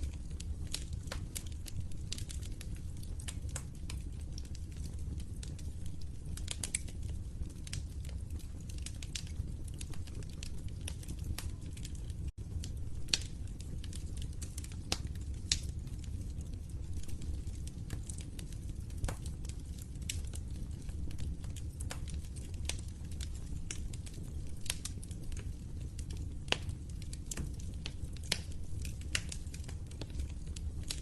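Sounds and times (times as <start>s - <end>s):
flames rumbling: 0.0s - 31.0s
wood fire crackling: 0.0s - 31.0s.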